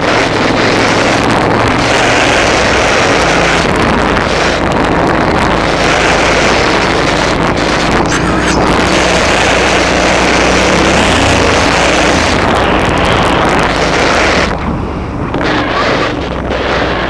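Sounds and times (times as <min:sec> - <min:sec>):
motorcycle engine under load: 0:00.0 - 0:17.0
wind rush over microphone: 0:00.0 - 0:17.0.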